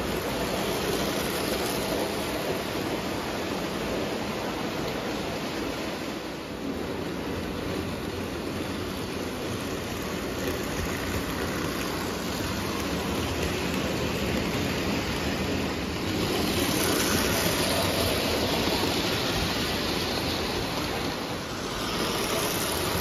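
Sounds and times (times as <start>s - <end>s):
toy train wheels rumbling on rails: 0.0s - 23.0s.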